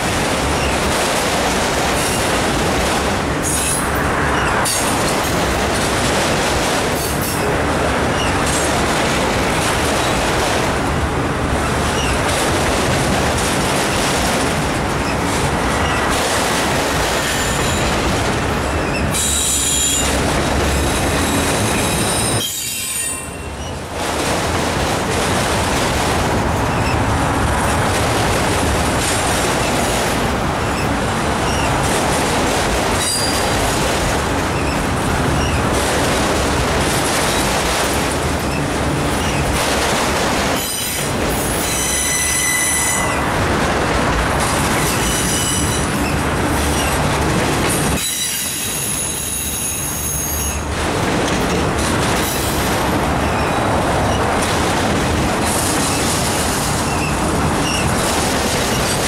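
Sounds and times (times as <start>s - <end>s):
train wheels clattering on rail: 0.0s - 59.0s.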